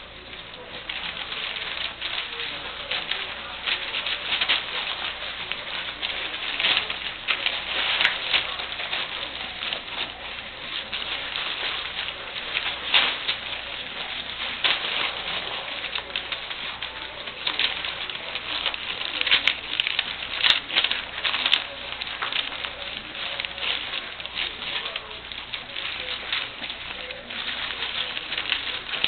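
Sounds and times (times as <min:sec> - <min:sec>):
puppies eating: 0:00.0 - 0:29.0.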